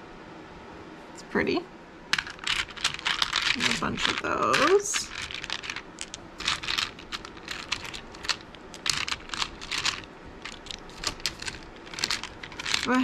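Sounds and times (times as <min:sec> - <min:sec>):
resin beads clicking in a basket: 0:02.2 - 0:13.0.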